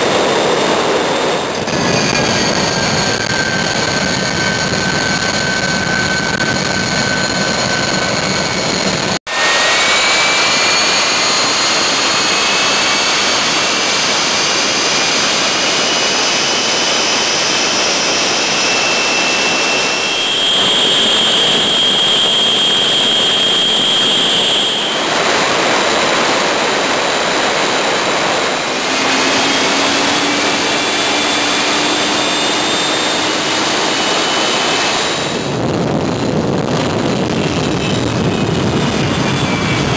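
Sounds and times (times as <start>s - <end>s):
high turbine whine: 0.0s - 39.9s
jet engine roar: 0.0s - 39.9s.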